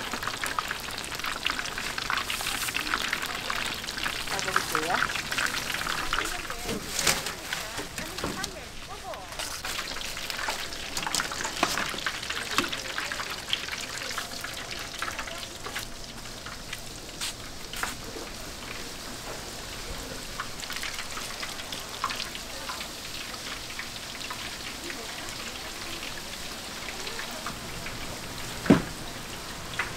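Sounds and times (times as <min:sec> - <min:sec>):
food deep-frying in hot oil: 0:00.0 - 0:29.9.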